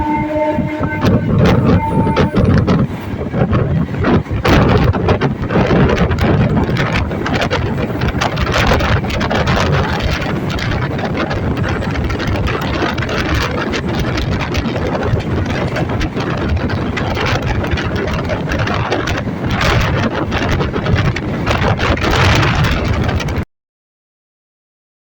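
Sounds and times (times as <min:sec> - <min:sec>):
train wheels rumbling on rails: 0:00.0 - 0:23.4
wind buffeting microphone: 0:00.0 - 0:23.4.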